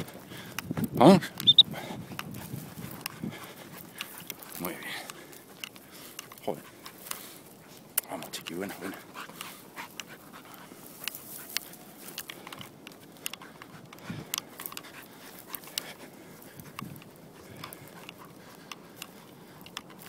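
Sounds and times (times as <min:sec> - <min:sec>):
dog panting: 0:00.0 - 0:20.0
footsteps crunching dry grass: 0:00.0 - 0:20.0.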